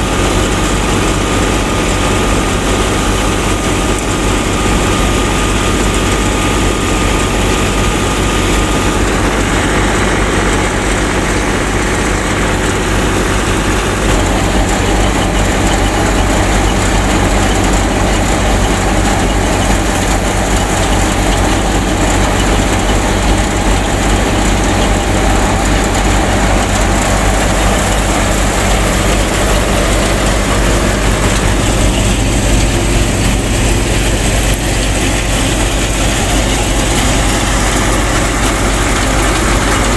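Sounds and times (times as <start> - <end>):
thresher running: 0.0 - 39.9.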